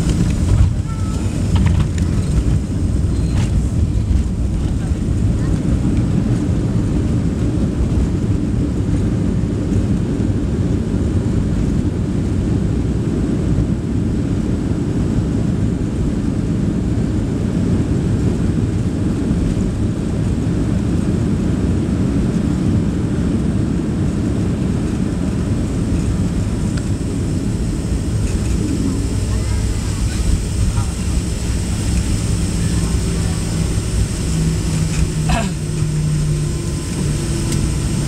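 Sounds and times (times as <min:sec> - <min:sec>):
aircraft engines roaring: 0:00.0 - 0:38.0
wheels rumbling on runway: 0:00.0 - 0:38.0.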